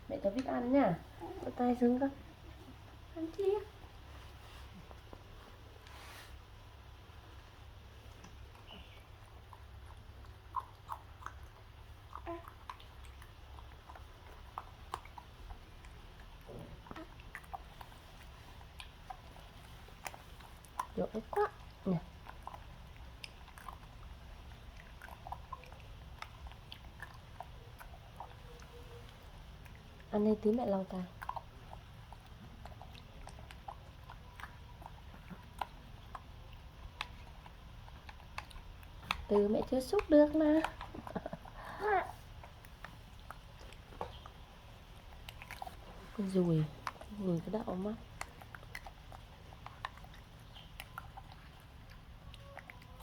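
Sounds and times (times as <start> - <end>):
low steady hum: 0.0 - 53.0
monkey chewing food: 0.0 - 53.0.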